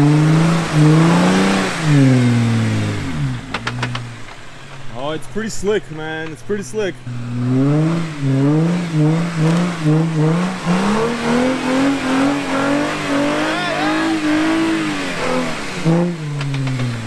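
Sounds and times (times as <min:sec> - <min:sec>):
car engine revving: 0:00.0 - 0:17.0
tires spinning rushing noise: 0:00.0 - 0:17.0.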